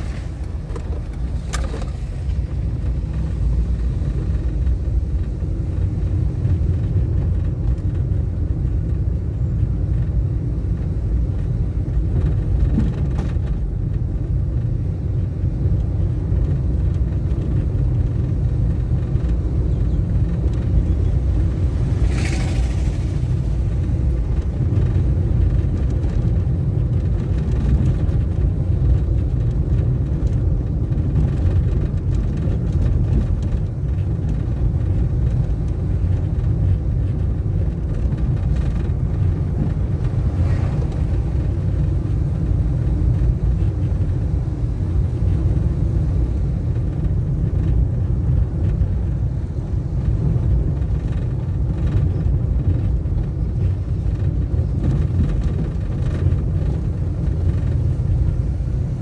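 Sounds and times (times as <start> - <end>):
car interior engine and road rumble: 0.0 - 59.0.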